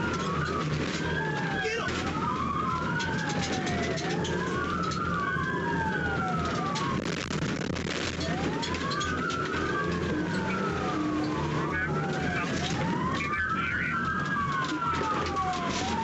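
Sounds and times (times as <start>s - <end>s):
engine and road hum: 0.0s - 16.0s
police sirens wailing: 0.0s - 16.0s.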